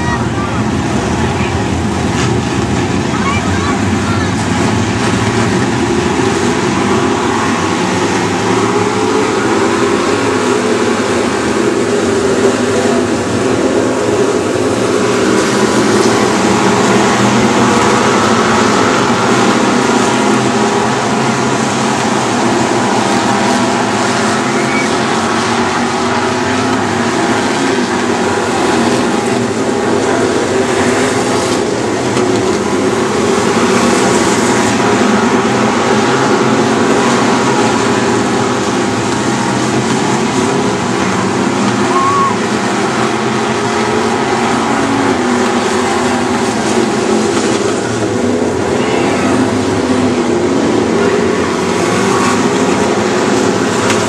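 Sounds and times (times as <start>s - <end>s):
race car engines racing: 0.0s - 54.0s.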